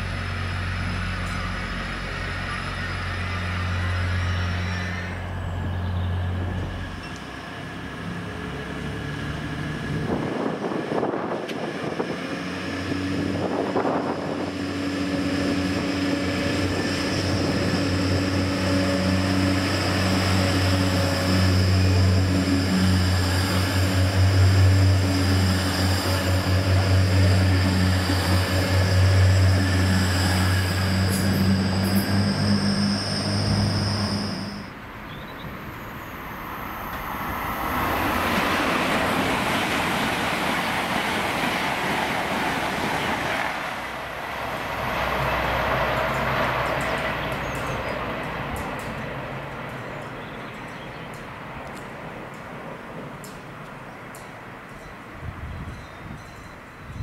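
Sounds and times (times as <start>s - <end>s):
diesel train engine humming: 0.0s - 57.0s
passing train rushing: 0.0s - 57.0s.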